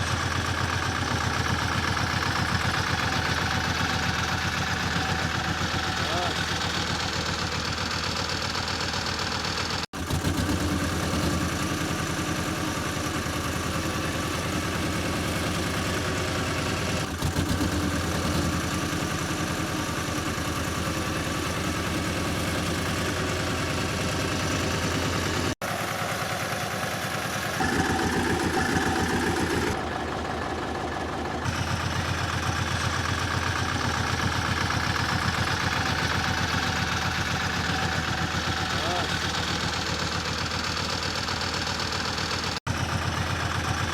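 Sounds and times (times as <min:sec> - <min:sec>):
road roller engine running: 0:00.0 - 0:43.9.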